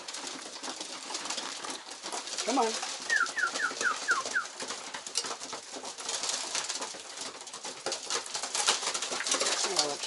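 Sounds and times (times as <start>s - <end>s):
pigeons clicking and scuffling: 0.0s - 10.0s.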